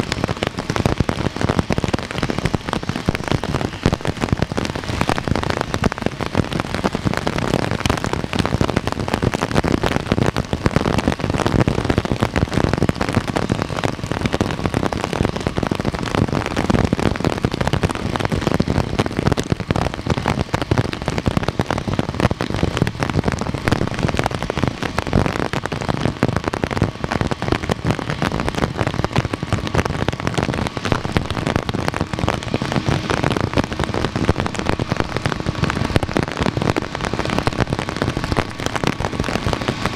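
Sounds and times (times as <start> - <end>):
faint steady whine: 0.0 - 39.9
heavy rain pattering: 0.0 - 39.9.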